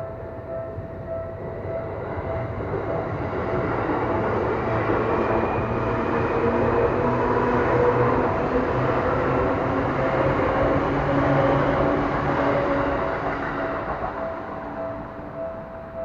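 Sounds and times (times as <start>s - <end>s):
electric train passing: 0.0s - 16.0s
level crossing warning bell: 0.0s - 16.0s.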